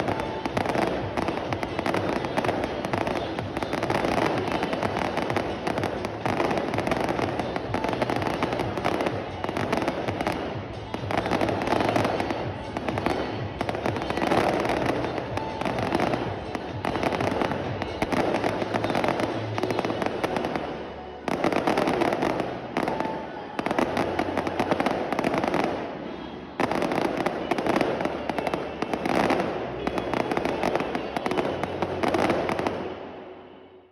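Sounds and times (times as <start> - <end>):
fireworks crackling and banging: 0.0 - 33.9.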